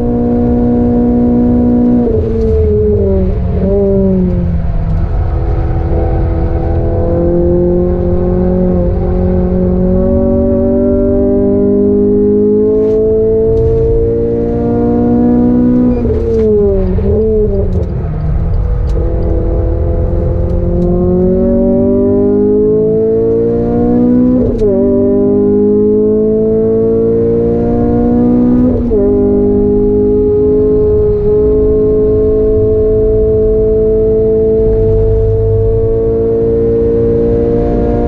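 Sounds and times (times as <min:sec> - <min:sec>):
car engine at full throttle: 0:00.0 - 0:38.0.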